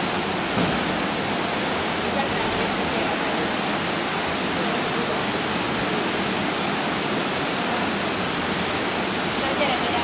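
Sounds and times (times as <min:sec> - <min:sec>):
rushing water hiss in pool: 0:00.0 - 0:10.0.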